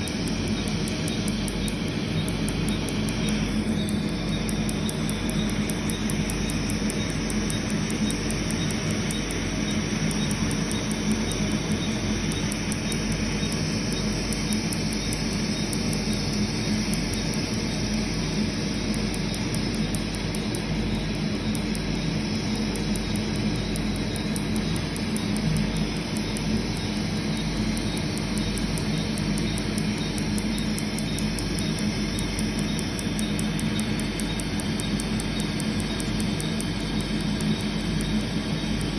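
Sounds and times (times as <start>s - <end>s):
laser snapping pulses: 0.0s - 38.9s
rush of air and machine hum: 0.0s - 38.9s.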